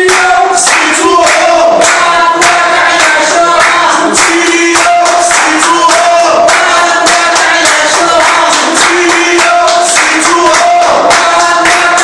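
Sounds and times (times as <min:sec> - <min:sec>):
crowd chanting in unison: 0:00.0 - 0:12.0
rhythmic hand-clapping: 0:00.0 - 0:12.0.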